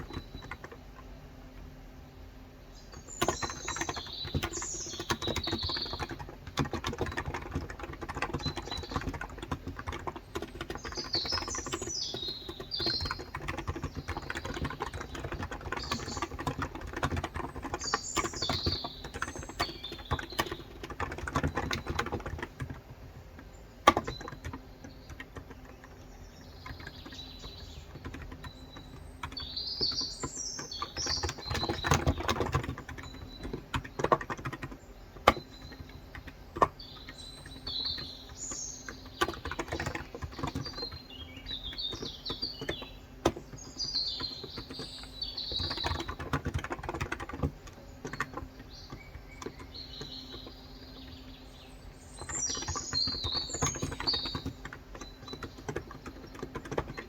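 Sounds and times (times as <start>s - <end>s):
keyboard typing: 0.0s - 1.1s, 2.9s - 57.0s
birds chirping: 0.0s - 57.0s.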